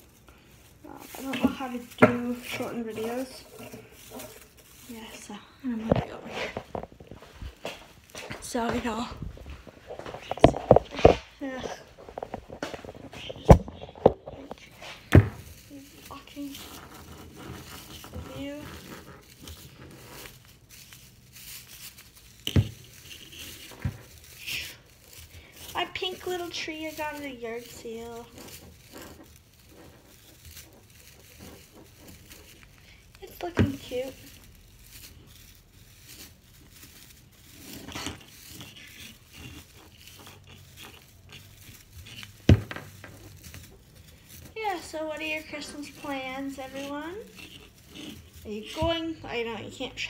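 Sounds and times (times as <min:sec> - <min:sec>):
tinsel branches rustling: 0:00.0 - 0:50.0.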